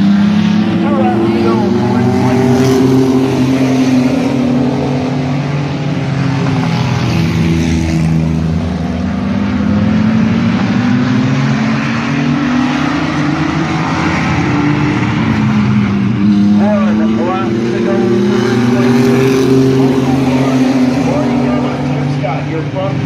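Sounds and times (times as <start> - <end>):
race truck engines running hard: 0.0 - 23.0.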